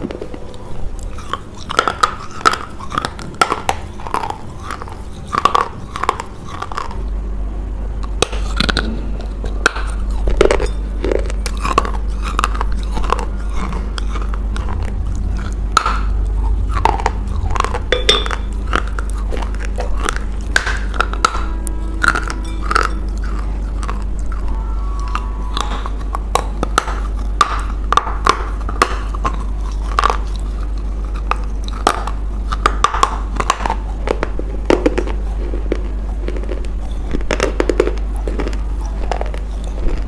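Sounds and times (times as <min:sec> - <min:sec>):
person biting and chewing clay: 0:00.0 - 0:07.1, 0:08.0 - 0:40.0.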